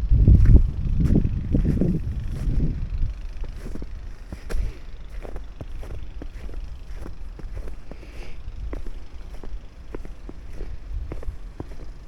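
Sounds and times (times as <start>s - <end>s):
footsteps crunching in snow: 0.4s - 12.0s.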